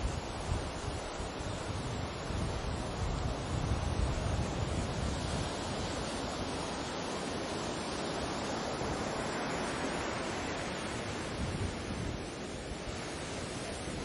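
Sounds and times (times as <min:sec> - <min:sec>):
sea waves rushing: 0:00.0 - 0:14.0
wind rumble: 0:00.0 - 0:14.0.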